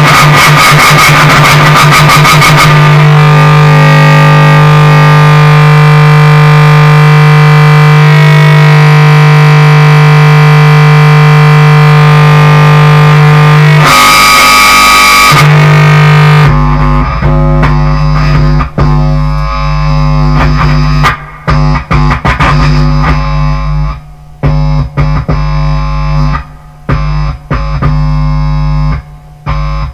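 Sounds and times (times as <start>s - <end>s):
distorted bass guitar drone: 0.0s - 29.9s.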